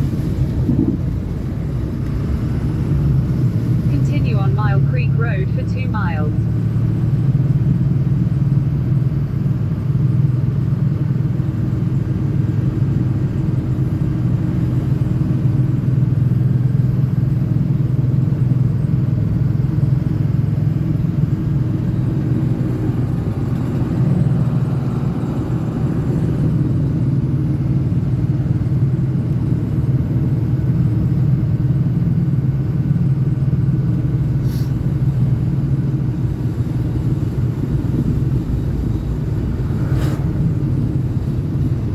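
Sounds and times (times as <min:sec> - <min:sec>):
diesel truck engine drone: 0:00.0 - 0:41.9
road noise: 0:00.0 - 0:41.9.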